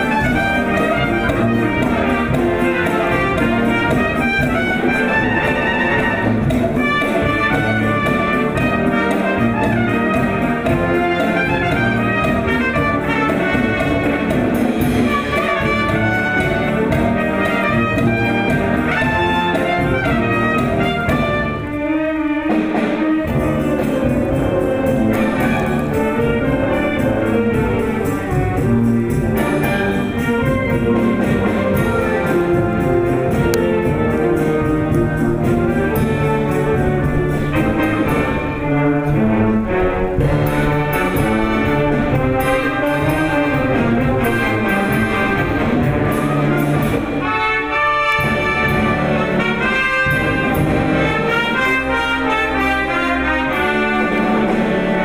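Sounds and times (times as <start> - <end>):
orchestral music with brass: 0.0 - 55.0.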